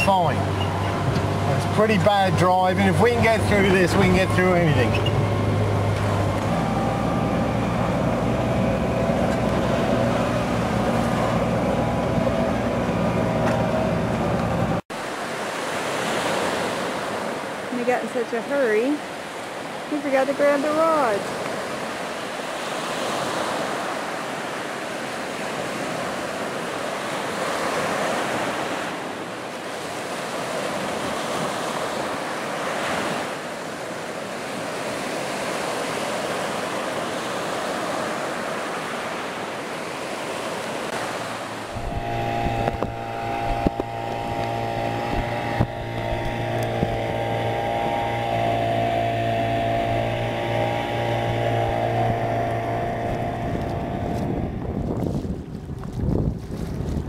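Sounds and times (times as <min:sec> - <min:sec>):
outboard motor running: 0:00.0 - 0:56.7
surf breaking: 0:00.0 - 0:57.0
water rushing past hull: 0:00.0 - 0:57.0.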